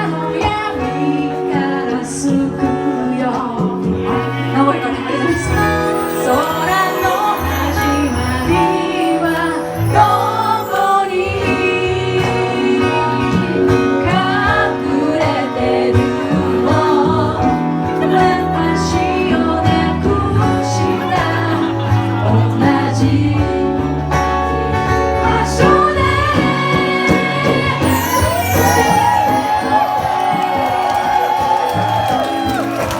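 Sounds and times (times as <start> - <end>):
person singing: 0.0 - 23.9, 25.2 - 32.7
guitar: 0.0 - 32.9.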